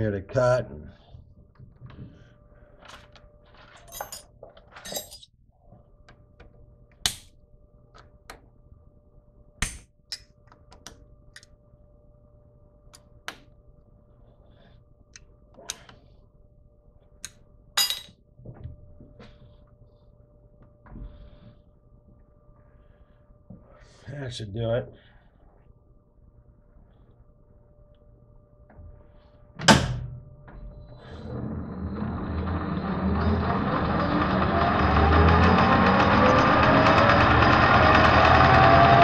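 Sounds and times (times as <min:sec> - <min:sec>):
faint steady hum: 0:00.0 - 0:32.6.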